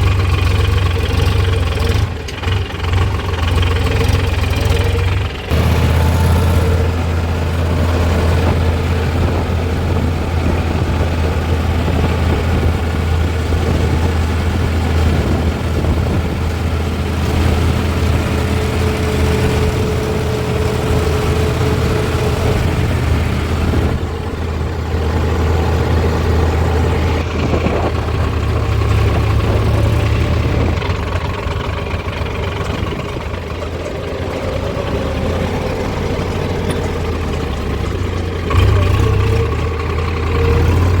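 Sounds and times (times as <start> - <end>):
diesel engines running at low revs: 0.0 - 41.0.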